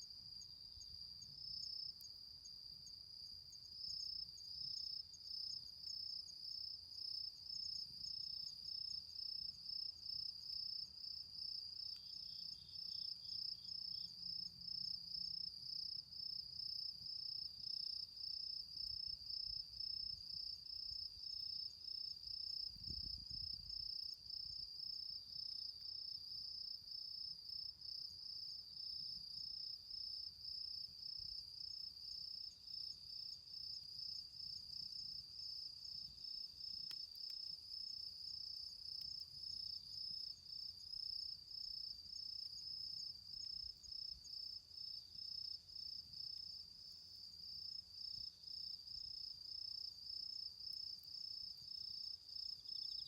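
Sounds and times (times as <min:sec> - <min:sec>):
insect chirps: 0:00.0 - 0:53.0.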